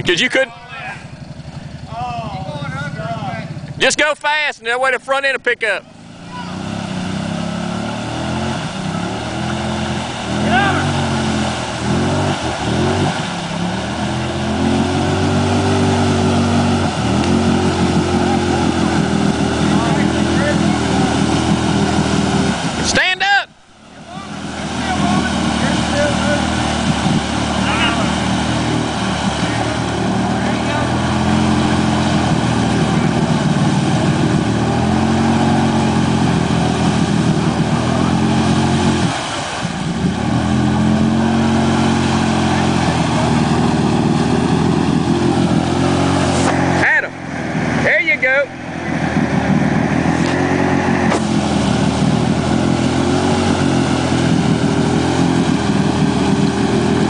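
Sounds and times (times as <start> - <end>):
tyres splashing muddy water: 5.8 - 57.0
quad engine revving hard: 5.9 - 23.2, 24.0 - 57.0.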